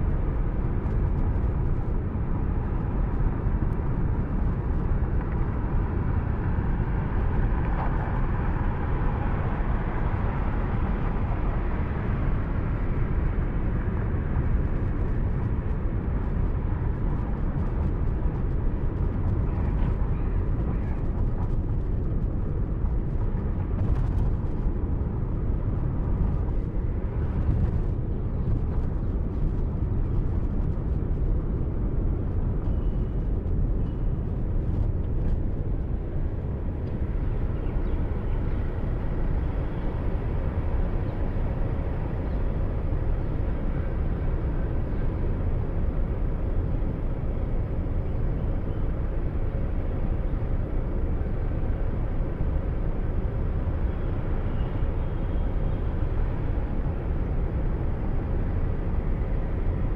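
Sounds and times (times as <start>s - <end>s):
car road and engine noise: 0.0s - 59.9s.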